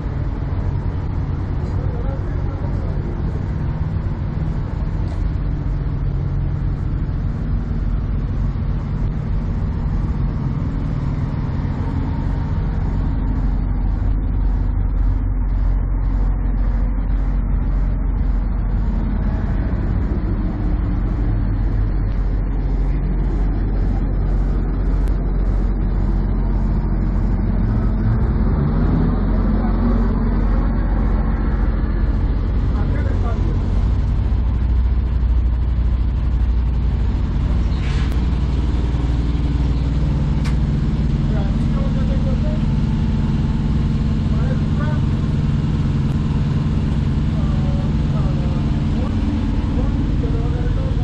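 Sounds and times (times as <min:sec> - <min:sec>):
diesel truck engine rumbling: 0:00.0 - 0:51.0.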